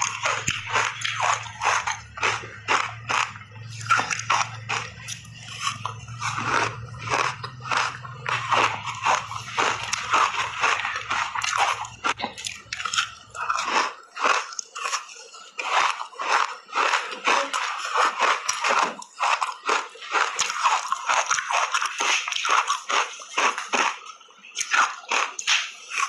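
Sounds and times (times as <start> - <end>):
crunching and chewing ice: 0.0 - 26.0.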